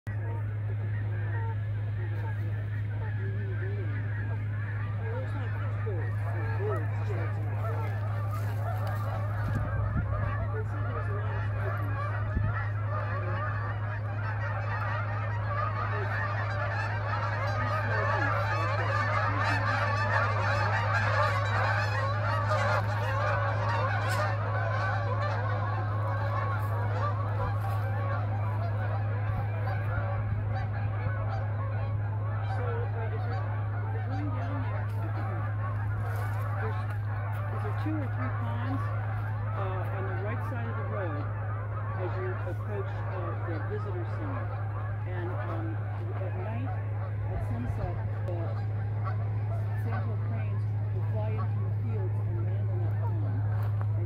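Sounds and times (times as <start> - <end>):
flock of geese honking: 0.0 - 54.0
low hum: 0.0 - 54.0.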